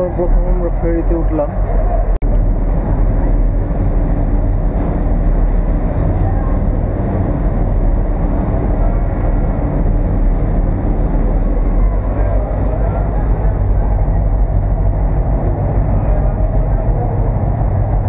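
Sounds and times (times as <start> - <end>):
ferry engine rumbling: 0.0 - 18.0.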